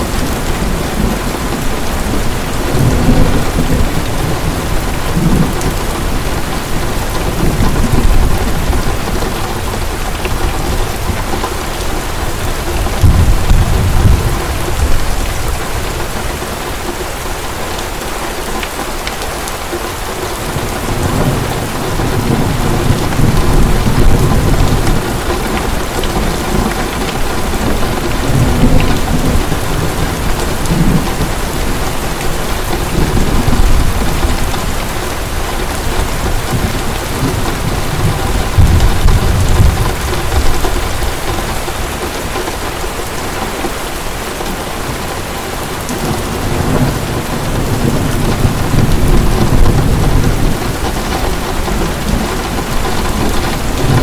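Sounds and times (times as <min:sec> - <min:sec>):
thunder rumbling: 0:00.0 - 0:16.9, 0:20.4 - 0:43.1, 0:44.8 - 0:54.0
heavy steady rain: 0:00.0 - 0:54.0.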